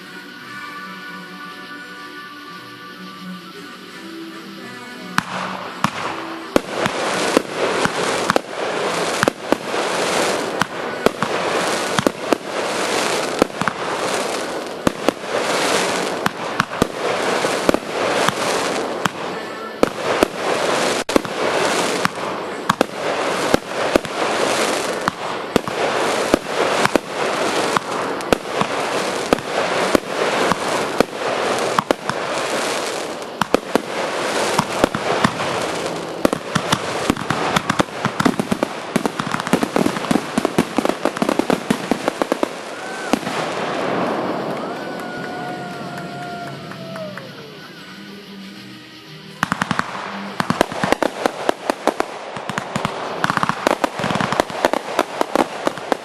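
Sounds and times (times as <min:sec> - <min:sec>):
fireworks bangs: 0:00.0 - 0:56.0
fireworks crackling: 0:00.0 - 0:56.0.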